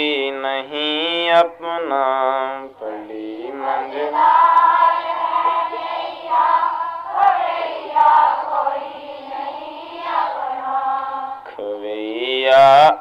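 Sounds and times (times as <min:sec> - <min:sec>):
voices singing devotional song: 0:00.0 - 0:13.0.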